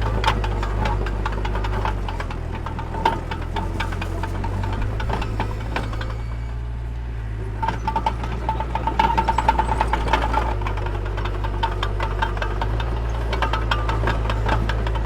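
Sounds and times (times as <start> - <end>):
rapid metallic clatter: 0.0 - 6.5, 7.6 - 15.0
diesel engine running: 0.0 - 15.0.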